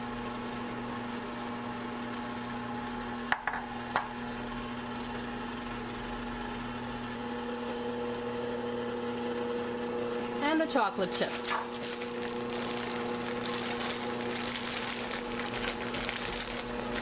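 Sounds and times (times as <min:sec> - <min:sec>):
stand mixer running: 0:00.0 - 0:17.0.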